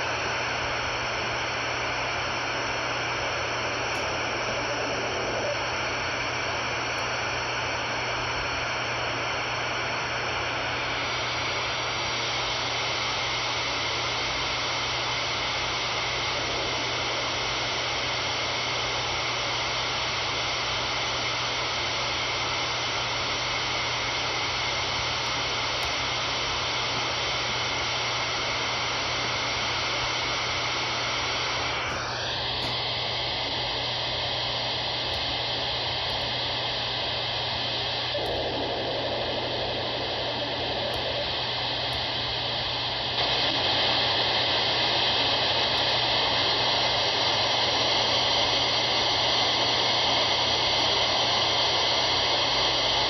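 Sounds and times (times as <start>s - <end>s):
high radio whistles: 0.0s - 53.0s
radio static hiss: 0.0s - 53.0s.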